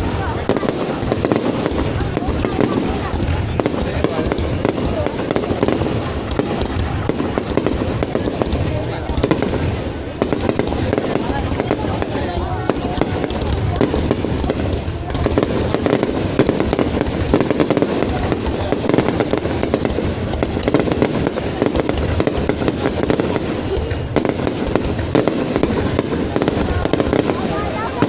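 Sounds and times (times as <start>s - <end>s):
fireworks barrage: 0.0s - 28.0s.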